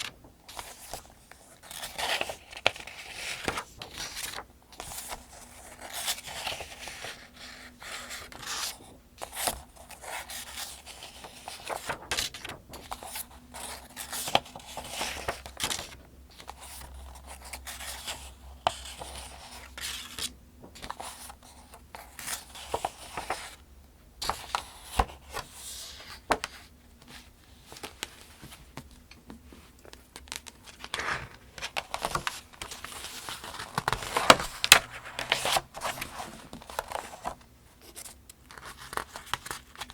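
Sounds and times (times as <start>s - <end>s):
book pages turning: 0.0s - 23.6s, 24.2s - 39.9s.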